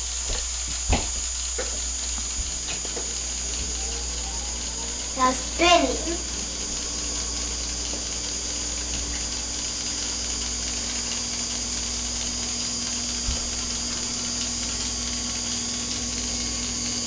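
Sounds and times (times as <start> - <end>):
electric motor and gears whirring: 0.0 - 17.0.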